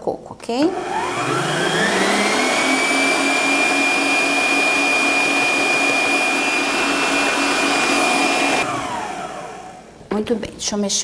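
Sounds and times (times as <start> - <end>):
stand mixer whining: 0.7 - 9.9.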